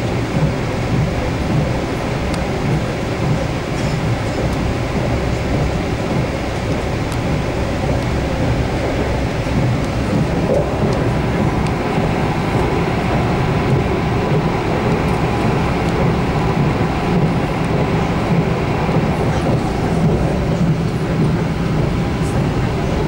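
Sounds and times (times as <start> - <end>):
train rumble and hiss from inside: 0.0 - 23.0.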